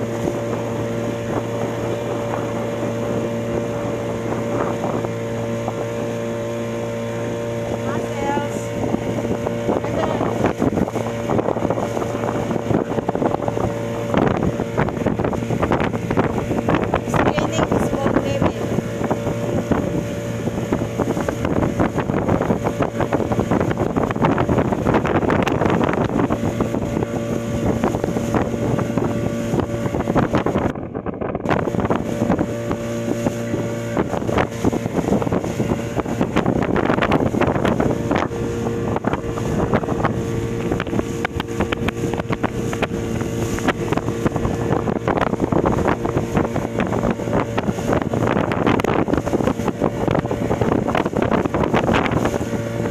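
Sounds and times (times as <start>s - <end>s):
outboard motor running: 0.0s - 52.9s
wake washing: 0.0s - 52.9s
wind buffeting microphone: 0.0s - 52.9s.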